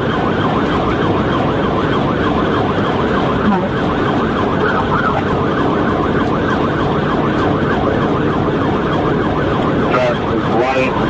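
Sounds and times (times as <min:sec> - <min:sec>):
engine and road noise: 0:00.0 - 0:11.0
police siren yelping: 0:00.0 - 0:11.0.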